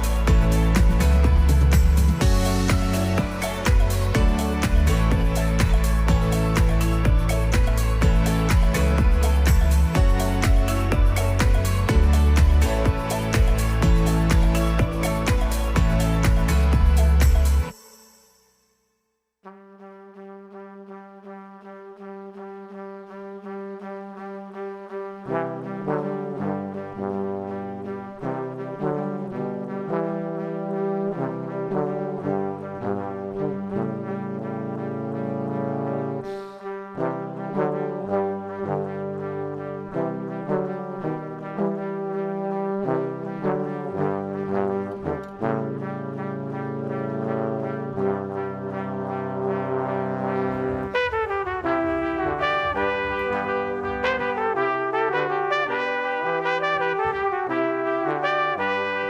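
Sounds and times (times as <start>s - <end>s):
instrumental background music: 0.0s - 59.0s.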